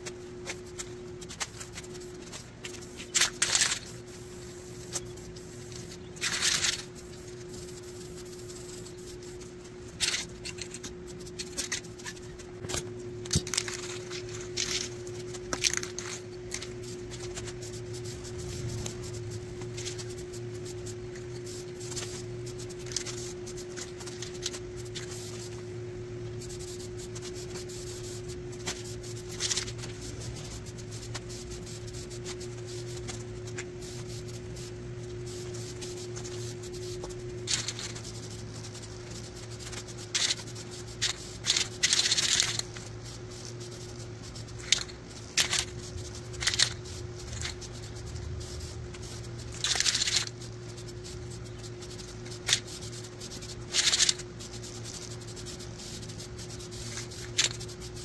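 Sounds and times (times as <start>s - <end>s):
steady low hum: 0.0s - 58.0s
spray paint can hissing: 0.4s - 12.4s, 13.2s - 25.6s, 26.4s - 58.0s.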